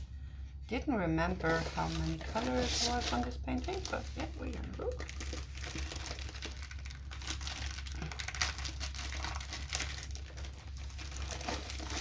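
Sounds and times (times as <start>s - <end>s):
low steady hum: 0.0s - 12.0s
plastic packaging crinkling: 1.3s - 12.0s.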